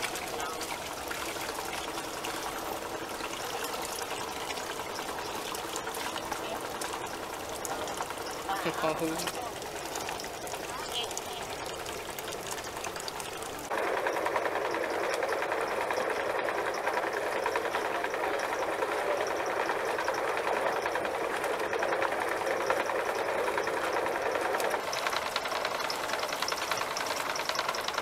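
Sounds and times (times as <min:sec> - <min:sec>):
small engine rattling: 0:00.0 - 0:28.0.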